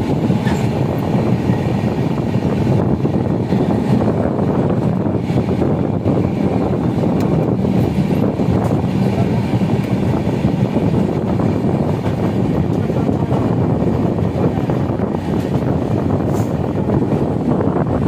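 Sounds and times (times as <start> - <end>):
train wheels rumbling on rails: 0.0 - 18.0
wind noise: 0.0 - 18.0.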